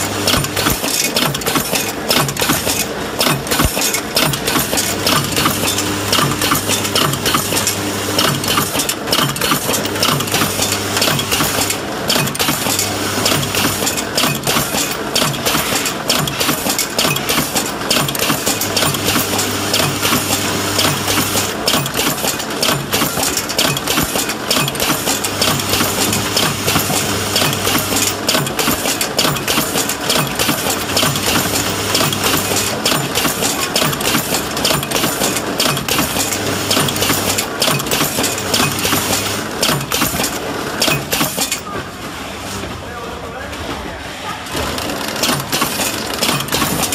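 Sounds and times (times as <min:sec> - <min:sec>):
wrapping machine clattering: 0:00.0 - 0:46.9.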